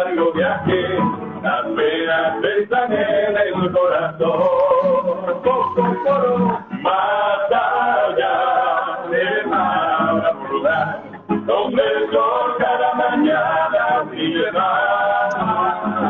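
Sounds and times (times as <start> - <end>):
men singing flamenco-style song: 0.0 - 16.0.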